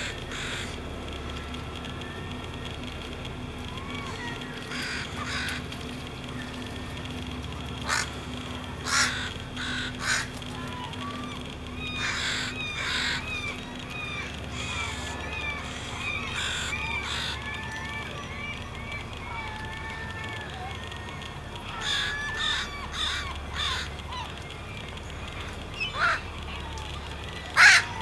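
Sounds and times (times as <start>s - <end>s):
harsh caw-like bird calls: 0.0s - 0.8s, 3.7s - 5.7s, 7.7s - 28.0s.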